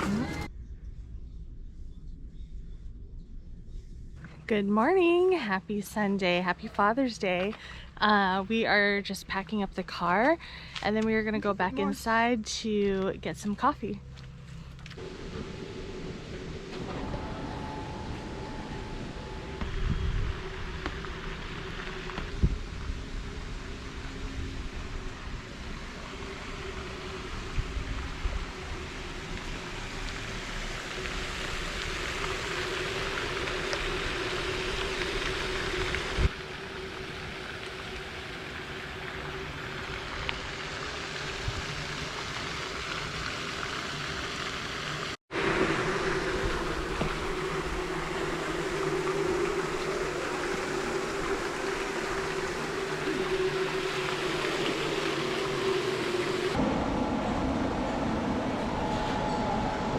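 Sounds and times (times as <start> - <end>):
vehicle running drone: 0.0 - 4.4, 13.8 - 59.9.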